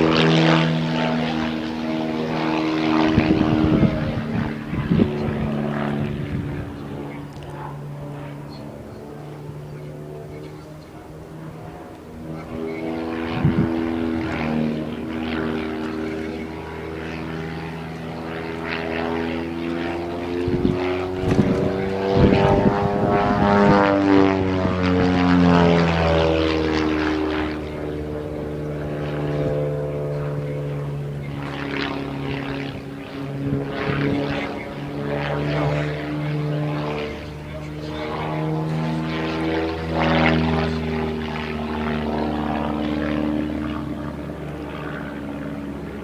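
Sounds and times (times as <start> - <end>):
propeller airplane engine droning: 0.0 - 46.0.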